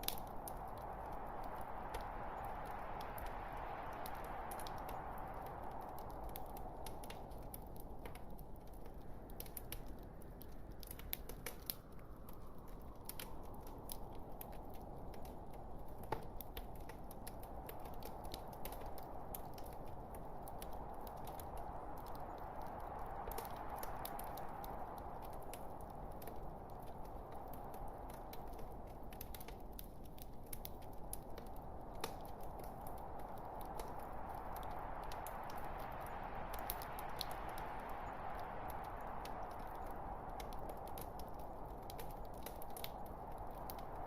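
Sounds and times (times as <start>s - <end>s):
log fire crackling: 0.0s - 44.0s.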